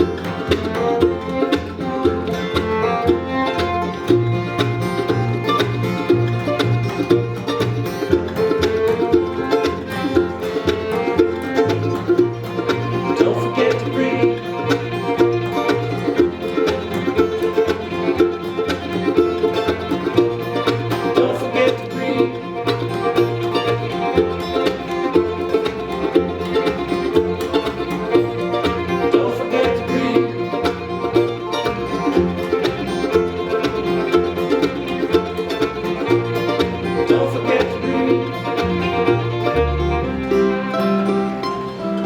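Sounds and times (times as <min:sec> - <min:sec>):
banjo: 0:00.0 - 0:42.0
fiddle: 0:00.0 - 0:42.0
guitar: 0:00.0 - 0:42.0.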